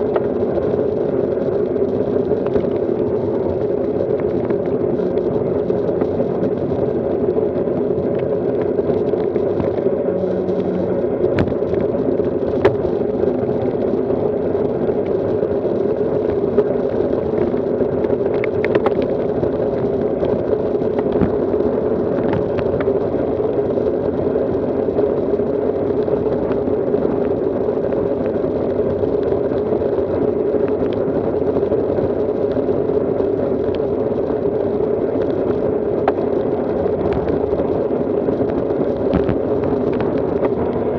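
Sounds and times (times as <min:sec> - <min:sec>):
wind and road noise rushing: 0:00.0 - 0:40.9.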